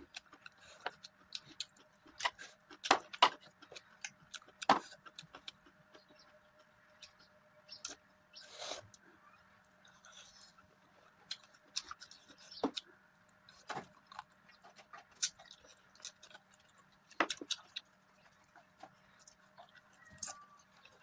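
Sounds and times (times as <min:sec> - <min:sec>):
chewing with mouth clicks: 0:00.0 - 0:08.0, 0:09.8 - 0:21.0.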